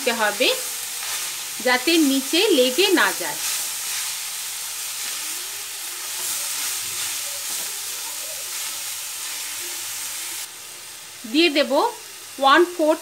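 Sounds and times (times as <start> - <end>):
spatula turning food: 0.0 - 11.2
spinach sizzling in a wok: 0.0 - 13.0.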